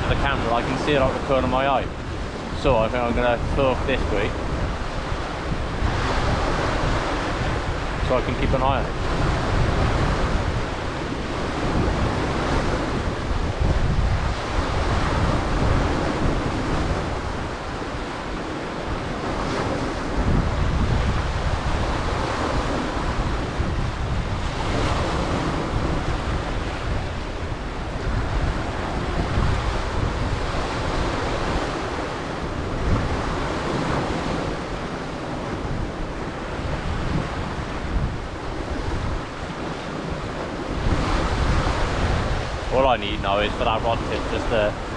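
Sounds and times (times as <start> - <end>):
sea waves breaking on shore: 0.0 - 44.9
wind buffeting microphone: 0.0 - 44.9.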